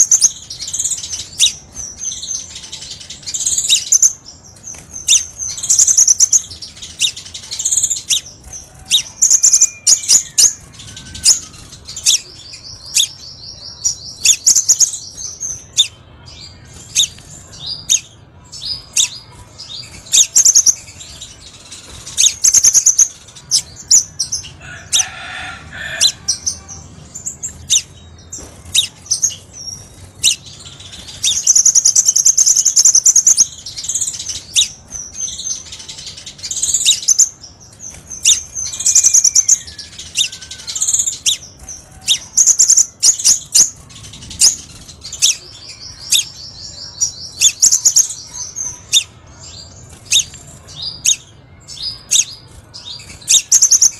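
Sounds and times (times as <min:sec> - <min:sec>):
bird chirping: 0:00.0 - 0:53.9.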